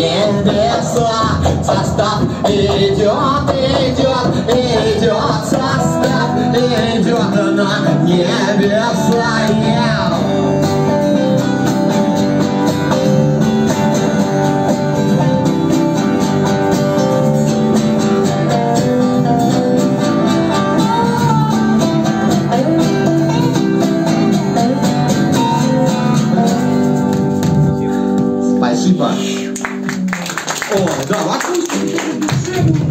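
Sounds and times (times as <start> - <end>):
strummed acoustic guitar: 0.0 - 29.6
second guitar: 0.0 - 30.2.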